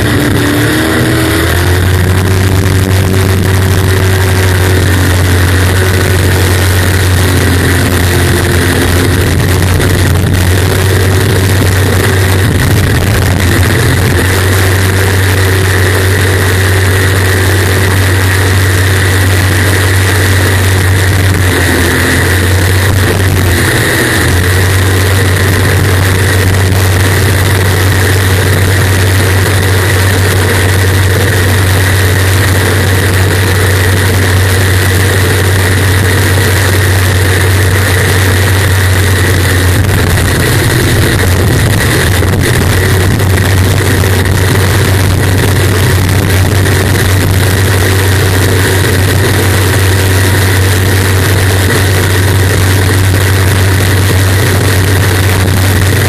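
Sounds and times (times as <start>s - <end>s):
jet boat engine drone: 0.0s - 56.0s.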